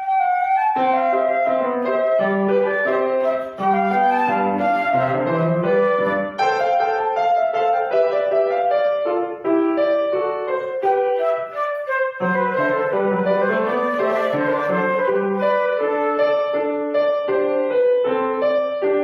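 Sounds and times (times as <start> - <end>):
flute melody: 0.0 - 18.9
piano accompaniment: 0.0 - 19.0.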